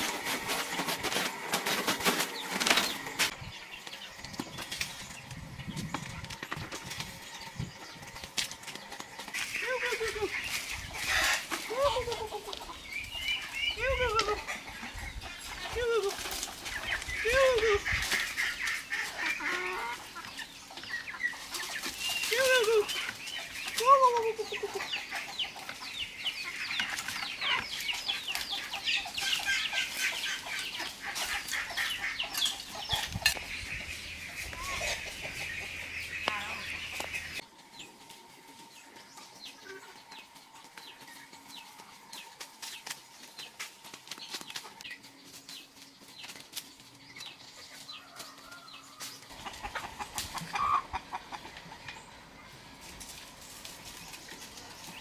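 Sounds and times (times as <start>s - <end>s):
chickens clucking and chirping: 0.0s - 55.0s.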